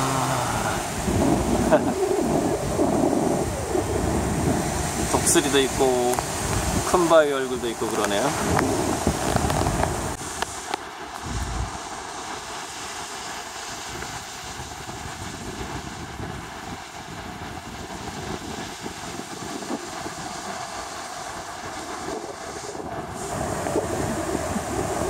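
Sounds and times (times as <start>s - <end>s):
sea surf washing: 0.0s - 25.0s
wind blowing across microphone: 0.0s - 25.0s.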